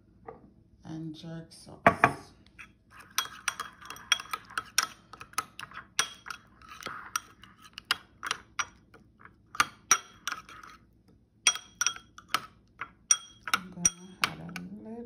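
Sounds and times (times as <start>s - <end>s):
metal spoon clinking in ceramic bowl: 1.9s - 10.8s, 11.4s - 14.7s.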